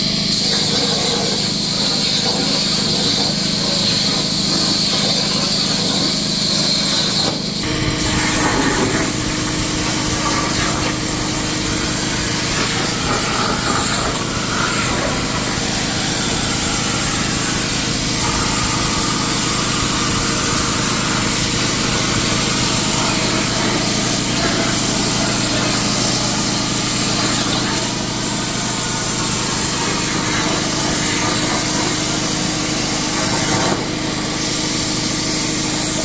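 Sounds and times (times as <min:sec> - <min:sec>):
plasma torch hissing: 0:00.1 - 0:36.0.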